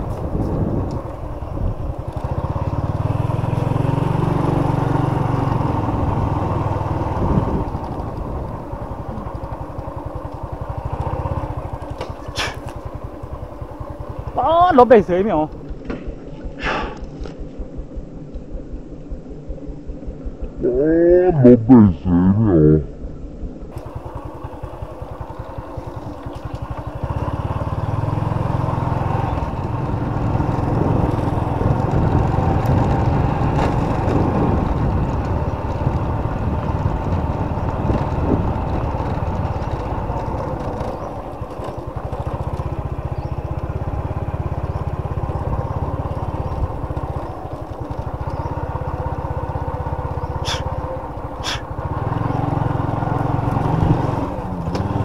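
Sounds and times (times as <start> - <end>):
small motorcycle engine running: 0.0 - 16.6, 23.7 - 55.0.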